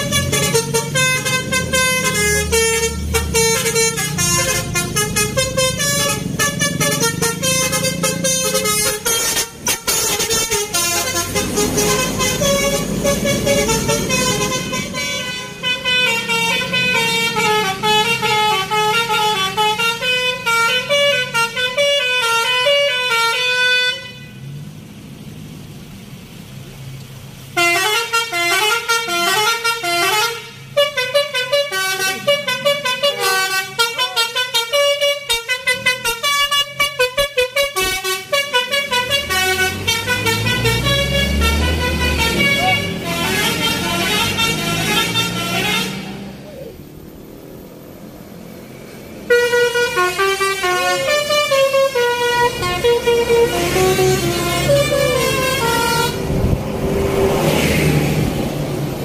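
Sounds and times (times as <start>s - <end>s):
musical bus horns playing tunes: 0.0s - 24.6s, 27.5s - 46.5s, 48.0s - 56.7s
traffic noise: 0.0s - 59.0s.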